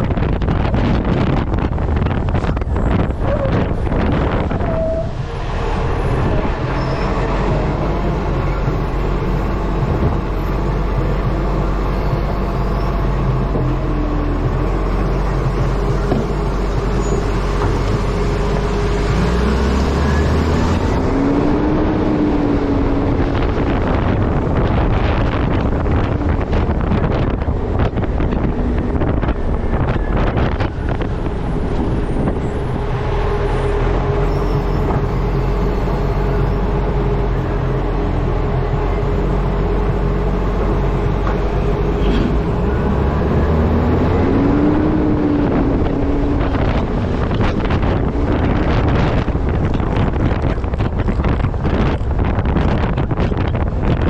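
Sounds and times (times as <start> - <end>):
truck road and engine rumble: 0.0 - 54.0
wind buffeting microphone: 0.0 - 54.0.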